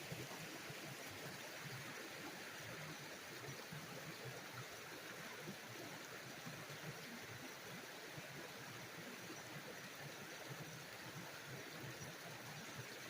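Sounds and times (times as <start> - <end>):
small stream flowing: 0.0 - 13.0.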